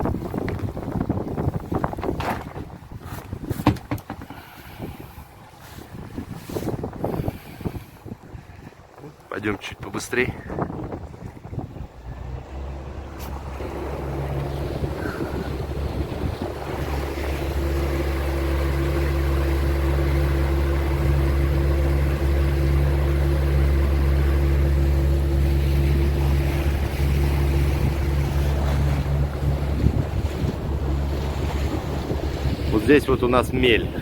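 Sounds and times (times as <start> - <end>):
motorboat engine running: 0.0 - 34.0
wind and water noise: 0.0 - 34.0.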